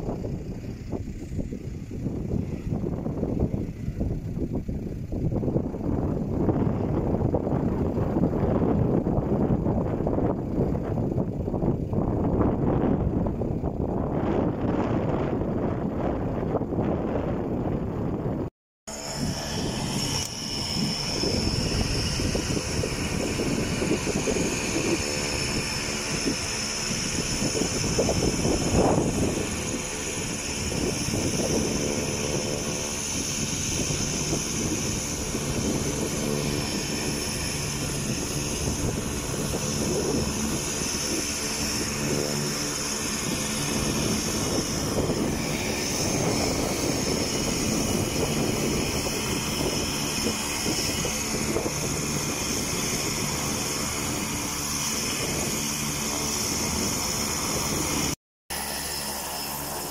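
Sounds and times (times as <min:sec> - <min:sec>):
wind buffeting microphone: 0:00.0 - 0:58.2
turboprop engine whining: 0:00.0 - 0:59.9.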